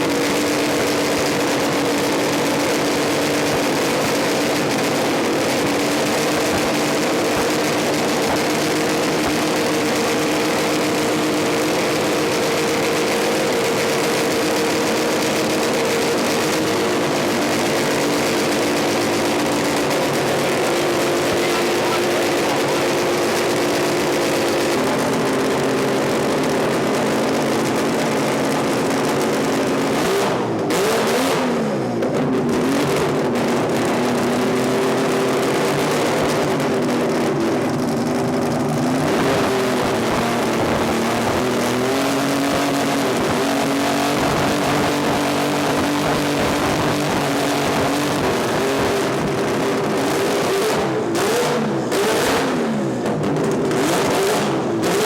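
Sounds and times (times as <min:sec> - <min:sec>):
rotary engine revving hard: 0:00.0 - 0:55.0.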